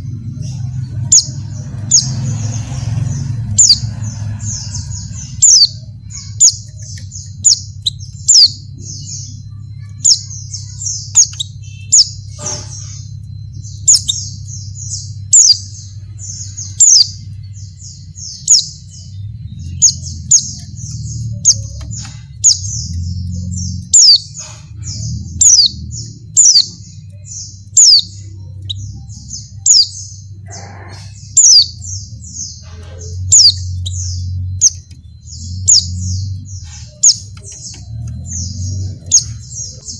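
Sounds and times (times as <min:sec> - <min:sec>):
bird high chirps: 0:00.0 - 0:39.9.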